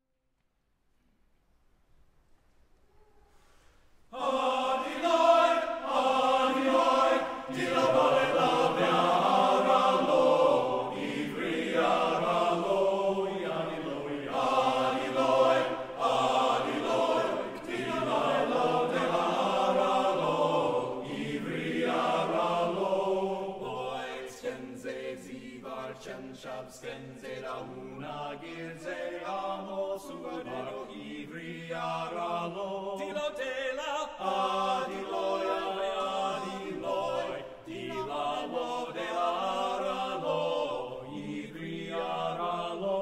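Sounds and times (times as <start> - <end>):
men's chorus singing in harmony: 4.1 - 43.0.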